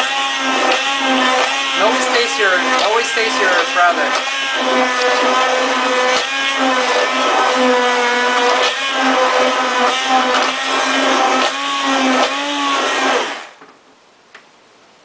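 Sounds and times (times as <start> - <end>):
immersion blender motor hum: 0.0 - 13.6.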